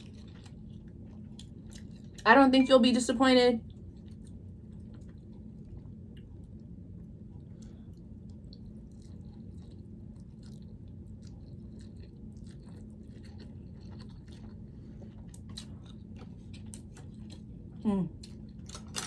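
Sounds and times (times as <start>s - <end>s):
person chewing food: 0.0s - 2.2s, 3.6s - 19.0s
steady low hum: 0.0s - 19.0s.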